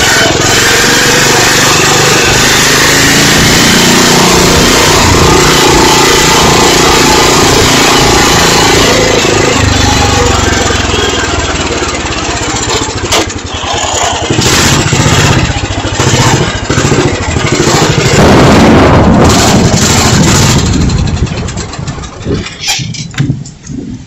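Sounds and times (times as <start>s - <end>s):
small engine running: 0.0s - 23.1s.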